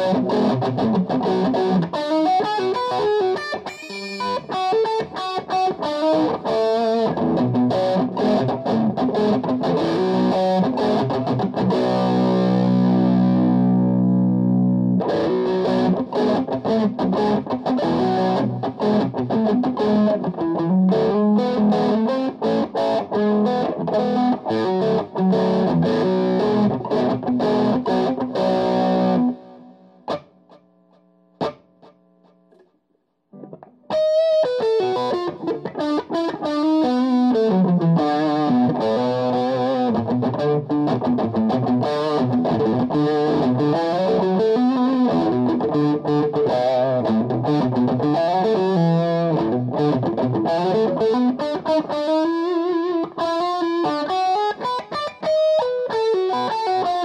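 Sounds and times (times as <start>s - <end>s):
guitar lead line: 0.0s - 30.6s, 31.4s - 32.7s, 33.3s - 57.0s
distorted electric guitar riffs: 0.0s - 32.6s, 33.4s - 57.0s.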